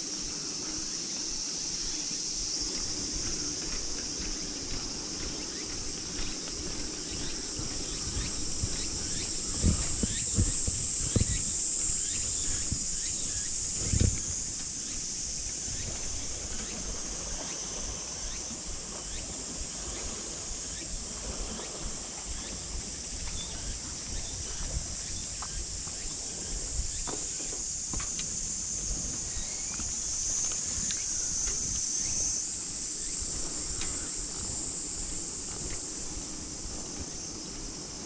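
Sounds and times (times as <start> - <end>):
high-pitched insect chorus: 0.0 - 38.0
wind: 0.0 - 38.0
bicycle rolling on pavement: 0.1 - 23.4, 27.9 - 38.0.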